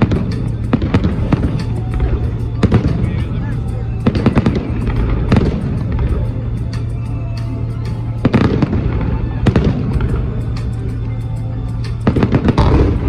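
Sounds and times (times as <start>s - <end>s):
fireworks bangs and crackling pops: 0.0s - 13.0s.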